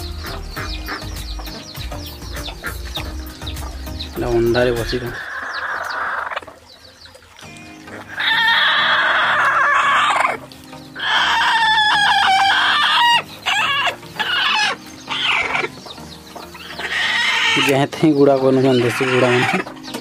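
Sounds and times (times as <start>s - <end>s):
hen squawking: 0.0s - 6.6s, 7.8s - 19.9s.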